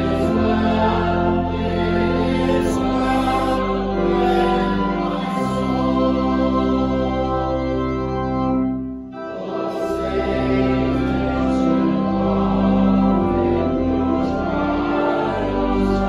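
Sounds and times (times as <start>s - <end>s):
congregation singing a hymn: 0.0s - 16.0s
organ playing: 0.0s - 16.0s.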